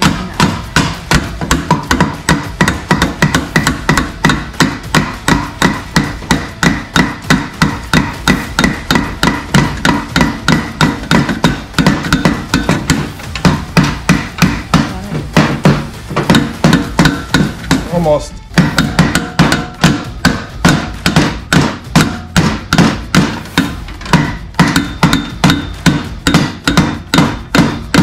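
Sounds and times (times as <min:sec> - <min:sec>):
hammer tapping metal pipe: 0:00.0 - 0:28.0.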